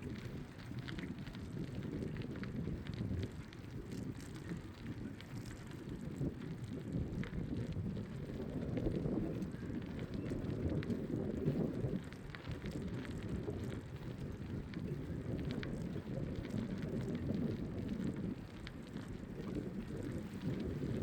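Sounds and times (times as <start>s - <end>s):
tyres crackling on path: 0.0s - 21.0s
wind buffeting microphone: 0.0s - 21.0s.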